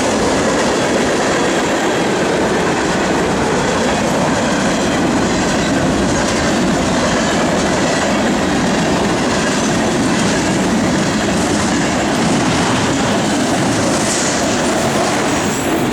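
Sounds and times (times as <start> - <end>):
freight train wheels rumbling: 0.0 - 15.9.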